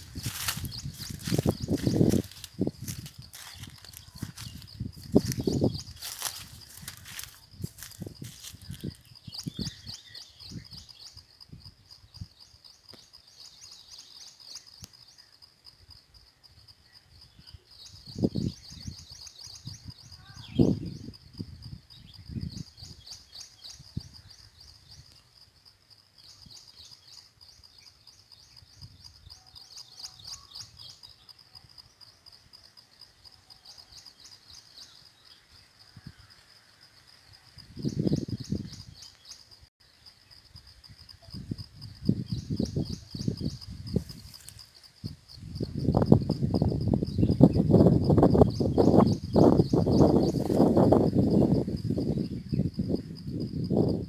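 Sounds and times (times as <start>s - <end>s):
birds singing in rapid trills: 0.0s - 15.5s, 16.8s - 36.3s, 37.5s - 54.0s.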